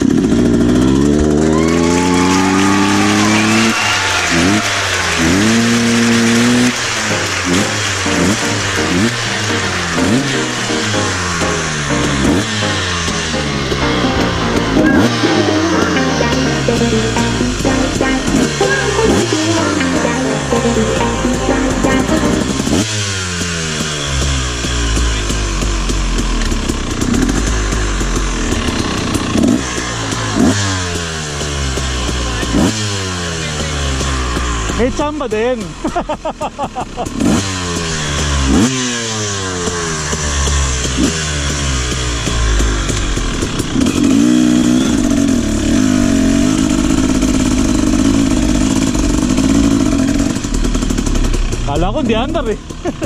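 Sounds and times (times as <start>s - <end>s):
motorcycle engine revving: 0.0s - 15.5s, 22.4s - 53.0s.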